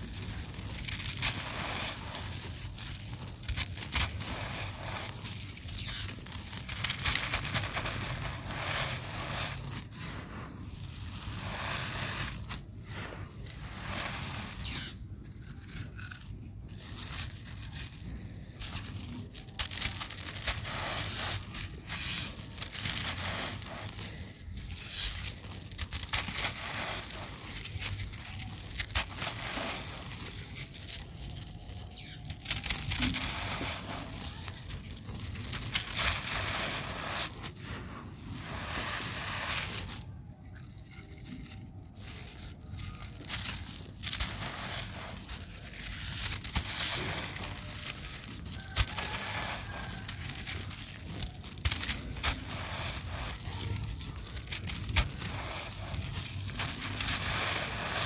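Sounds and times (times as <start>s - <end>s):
dry cement crumbling and crunching: 0.0s - 58.0s.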